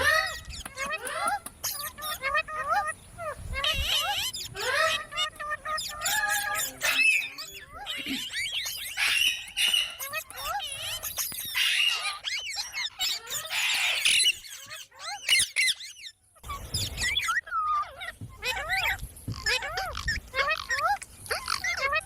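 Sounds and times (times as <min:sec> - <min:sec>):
parakeets squawking and chirping: 0:00.0 - 0:22.0.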